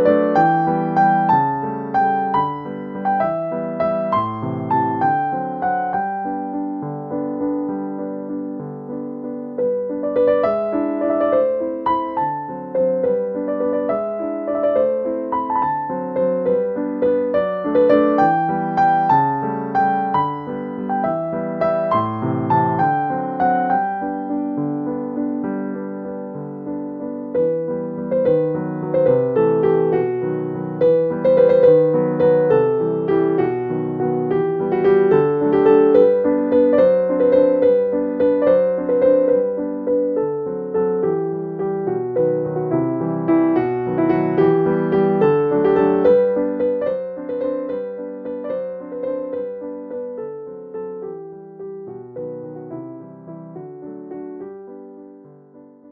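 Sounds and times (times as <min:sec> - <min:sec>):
gentle piano melody: 0:00.0 - 0:55.9.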